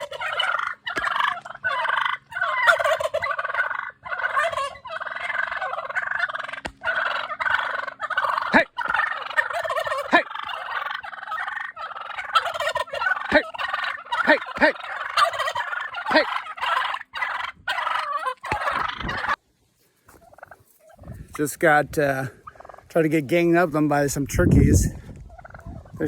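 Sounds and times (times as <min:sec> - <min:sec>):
sharp falling turkey calls: 0:00.0 - 0:21.5, 0:22.2 - 0:22.9, 0:25.0 - 0:26.0
turkeys gobbling: 0:00.0 - 0:21.5, 0:22.2 - 0:23.2, 0:25.0 - 0:26.0.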